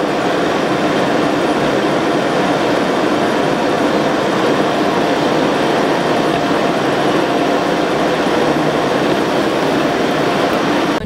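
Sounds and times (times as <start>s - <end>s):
road and tyre noise in car: 0.0s - 11.0s.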